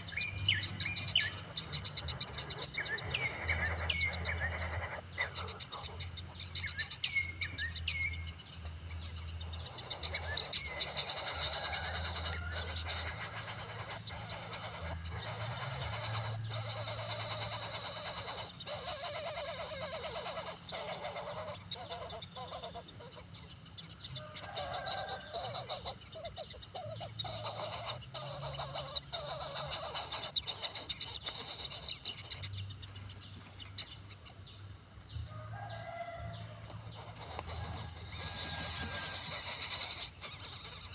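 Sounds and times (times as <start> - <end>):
bird chirps and calls: 0.0 - 40.9
high drone of insects: 0.0 - 40.9.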